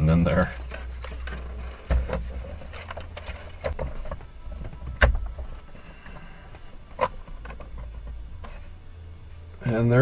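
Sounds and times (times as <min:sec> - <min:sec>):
plastic rustling and clicking: 0:00.3 - 0:08.6.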